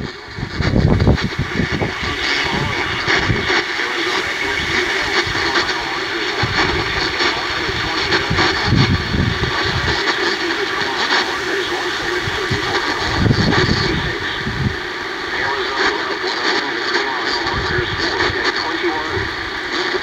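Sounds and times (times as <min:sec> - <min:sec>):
emergency alert through radio speaker: 0:00.0 - 0:20.0
radio static and hiss: 0:00.0 - 0:20.0.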